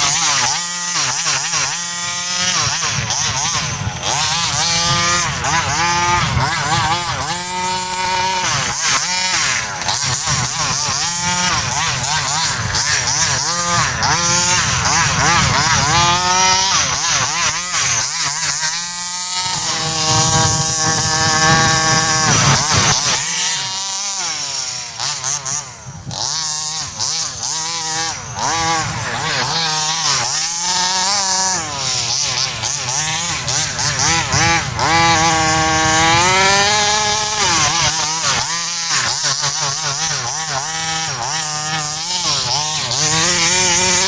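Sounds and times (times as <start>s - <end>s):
two-stroke engine revving: 0.0s - 44.0s.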